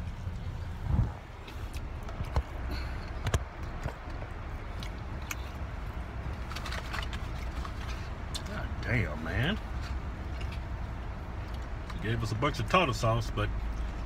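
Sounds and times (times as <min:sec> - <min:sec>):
low hum in car cabin: 0:00.0 - 0:14.0.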